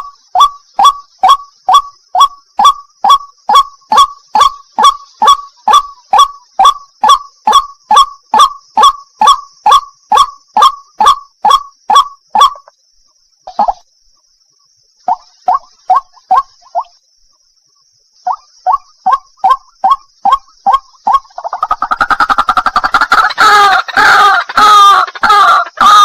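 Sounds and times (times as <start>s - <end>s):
waterhen calling: 0.0s - 12.7s, 15.1s - 16.9s, 18.3s - 26.0s.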